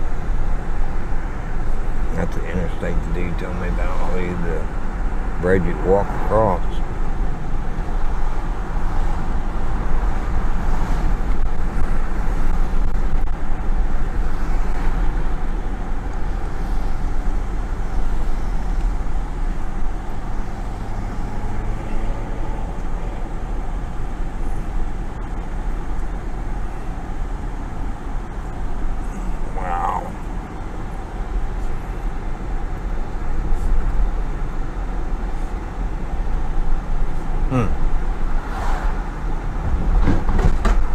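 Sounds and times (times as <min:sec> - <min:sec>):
vehicle road and engine noise: 0:00.0 - 0:40.9.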